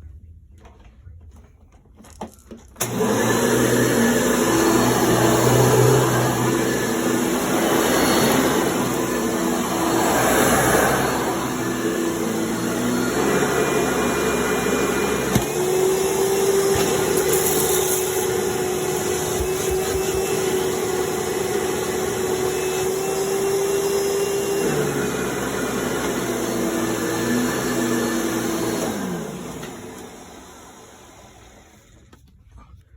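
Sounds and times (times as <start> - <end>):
vacuum cleaner running: 2.8 - 32.2.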